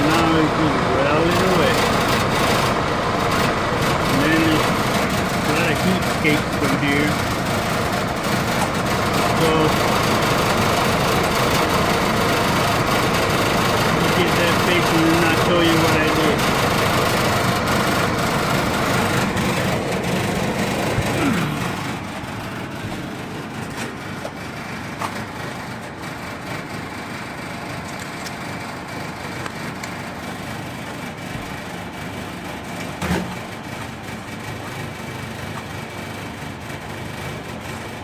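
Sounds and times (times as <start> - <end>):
machine humming: 0.0 - 38.0.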